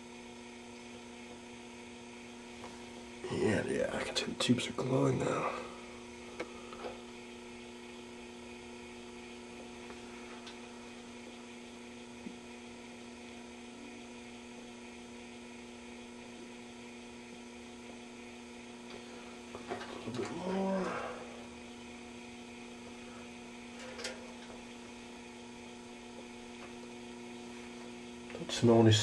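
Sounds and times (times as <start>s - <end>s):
mains hum from radio: 0.0s - 29.0s.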